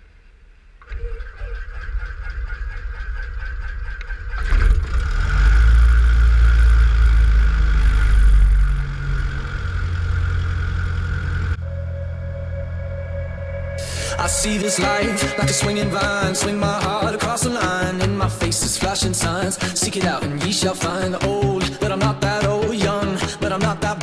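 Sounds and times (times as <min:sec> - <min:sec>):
piston aircraft engine running: 0:01.8 - 0:24.0.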